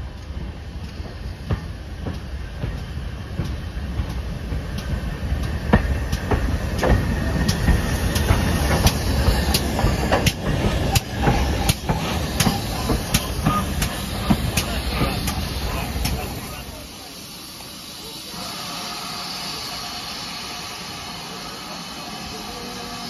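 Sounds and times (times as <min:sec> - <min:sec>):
steam train rumbling: 0:00.0 - 0:23.0
train clicks and knocks: 0:00.0 - 0:23.0.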